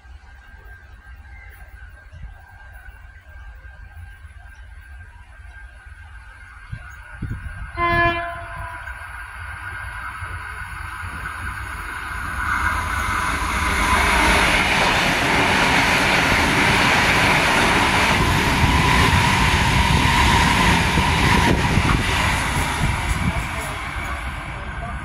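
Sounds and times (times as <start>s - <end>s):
electric trains passing: 0.0s - 25.0s.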